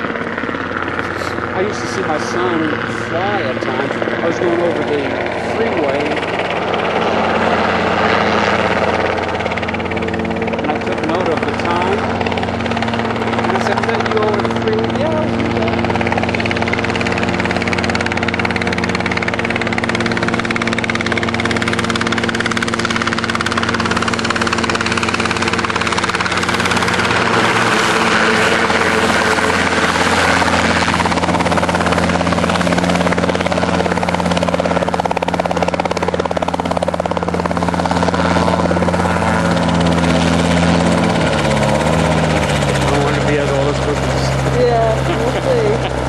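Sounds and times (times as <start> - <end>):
helicopter drone: 0.0 - 46.0.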